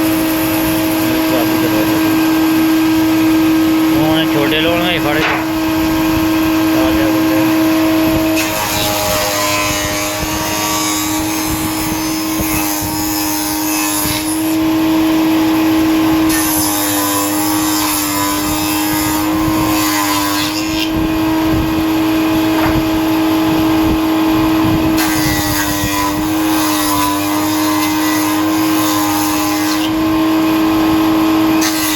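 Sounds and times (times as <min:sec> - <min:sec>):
router bit cutting wood: 0:00.0 - 0:15.2, 0:15.8 - 0:30.2.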